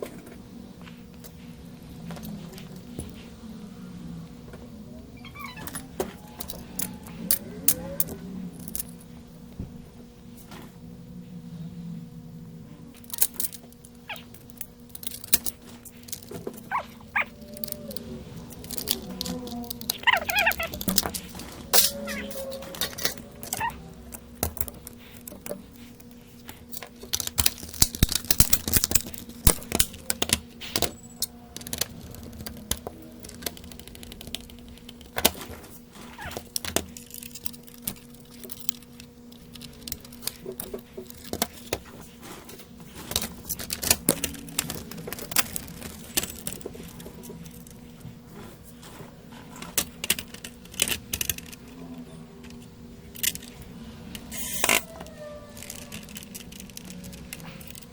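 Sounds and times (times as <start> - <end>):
steady electrical hum: 0.0 - 57.9.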